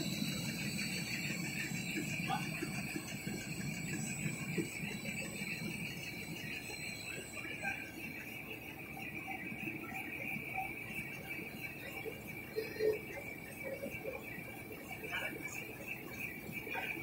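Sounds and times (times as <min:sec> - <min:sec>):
low mechanical hum: 0:00.0 - 0:17.0
printing machine high whine: 0:00.0 - 0:17.0.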